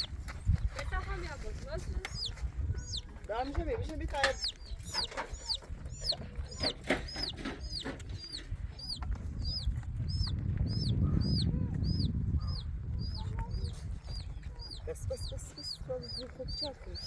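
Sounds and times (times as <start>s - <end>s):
bird peeping: 0.0s - 17.0s.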